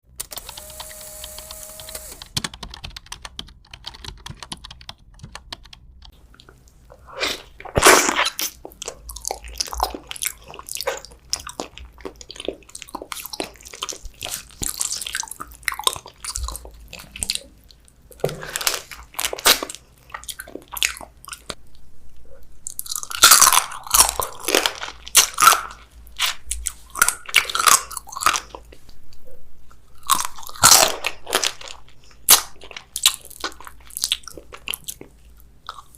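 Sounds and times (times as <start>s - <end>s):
crunchy chewing of food: 6.2s - 35.9s.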